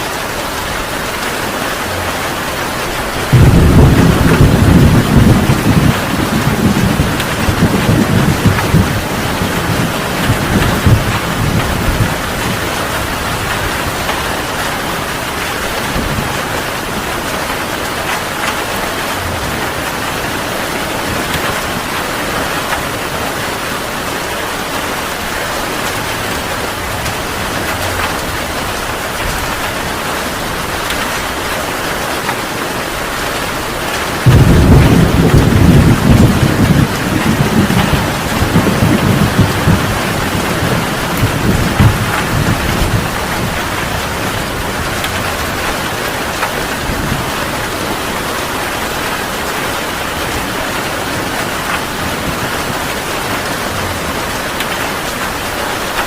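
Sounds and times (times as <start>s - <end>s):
heavy rain falling: 0.0s - 56.0s
rolling thunder rumble: 1.3s - 32.3s, 32.9s - 54.8s.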